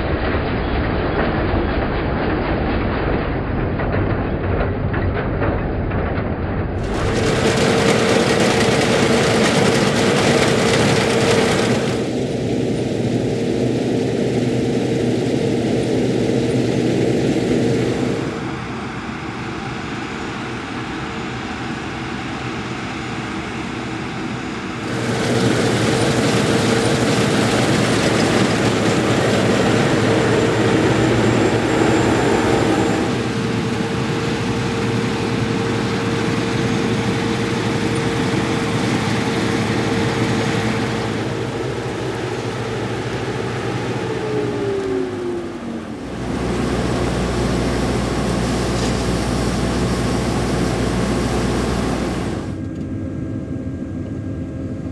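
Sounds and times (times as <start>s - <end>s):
combine harvester drone: 0.0s - 54.9s.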